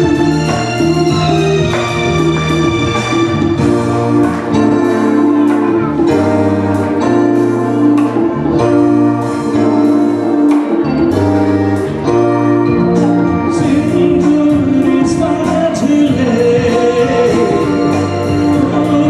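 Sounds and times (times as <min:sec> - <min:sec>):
hand drums: 0:00.0 - 0:19.0
keyboard chords: 0:00.0 - 0:19.0
live band playing: 0:00.0 - 0:19.0.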